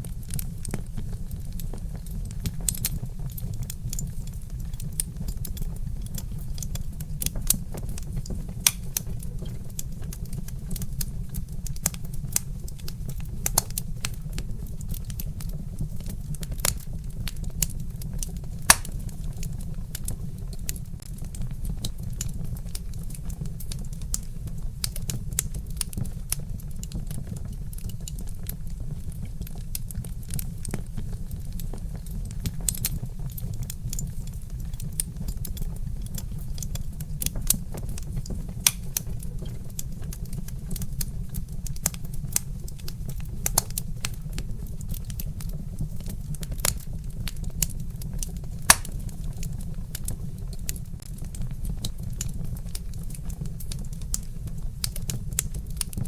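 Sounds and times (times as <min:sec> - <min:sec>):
low steady rumble: 0:00.0 - 0:56.0
wood fire crackling and popping: 0:00.0 - 0:56.0.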